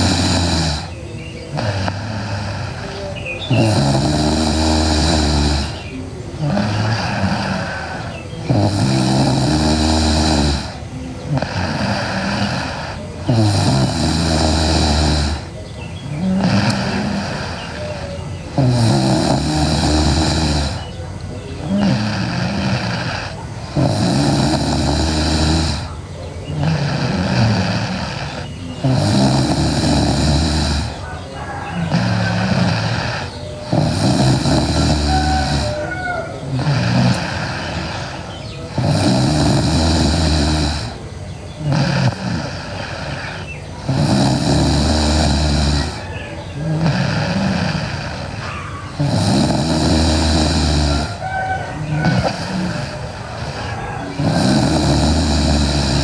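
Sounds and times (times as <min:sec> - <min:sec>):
person snoring loudly: 0:00.0 - 0:56.0
soft pitched breaths: 0:00.0 - 0:56.0.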